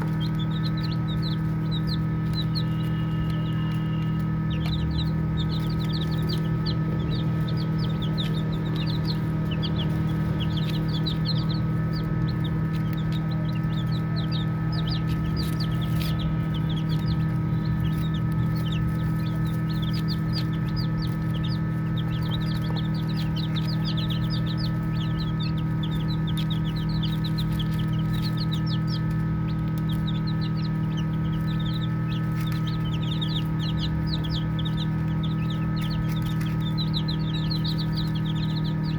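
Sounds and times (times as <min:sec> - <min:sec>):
baby chicks peeping: 0:00.0 - 0:38.9
loud low hum: 0:00.0 - 0:38.9.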